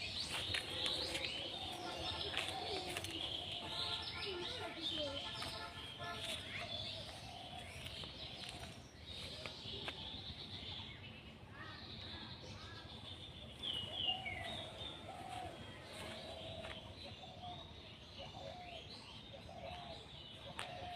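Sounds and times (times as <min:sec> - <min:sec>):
birds chirping and calling: 0:00.0 - 0:20.9.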